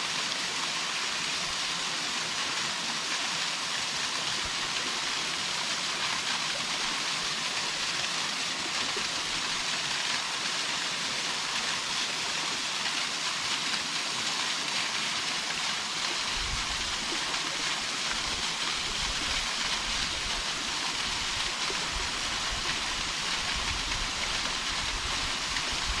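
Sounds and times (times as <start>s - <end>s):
waterfall hiss: 0.0s - 26.0s.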